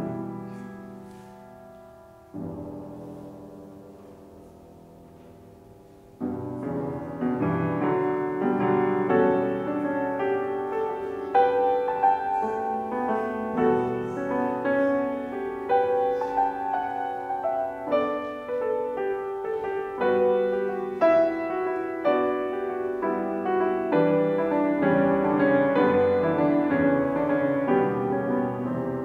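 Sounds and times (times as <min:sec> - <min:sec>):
grand piano classical music: 0:00.0 - 0:29.0.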